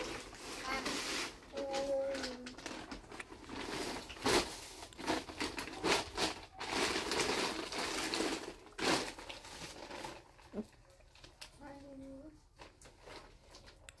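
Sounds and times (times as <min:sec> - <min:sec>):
rustling and crinkling: 0:00.0 - 0:14.0.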